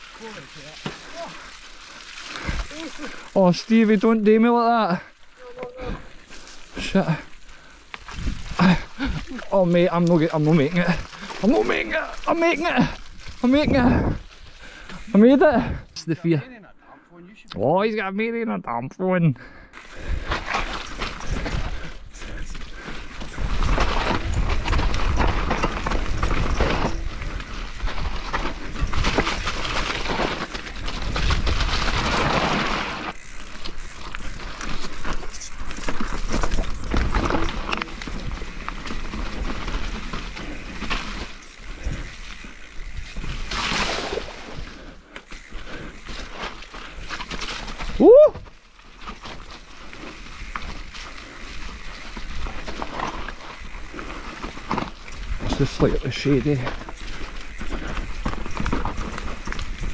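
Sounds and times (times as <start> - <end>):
bike rattling: 0.0 - 15.9, 19.7 - 59.9
bike tyres sliding over dirt: 0.0 - 15.9, 19.7 - 59.9.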